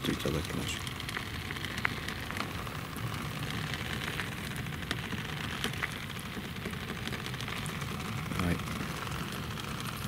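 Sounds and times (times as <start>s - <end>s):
broth bubbling: 0.0s - 10.0s
gas stove rumble: 0.0s - 10.0s.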